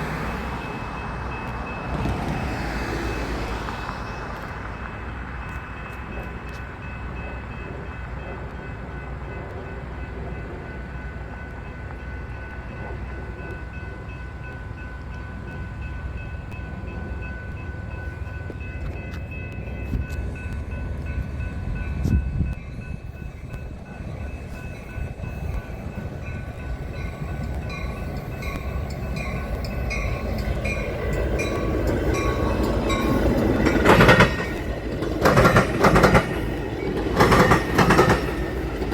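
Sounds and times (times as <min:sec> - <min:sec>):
train rumble: 0:00.0 - 0:38.9
steady ringing tones: 0:05.4 - 0:38.9.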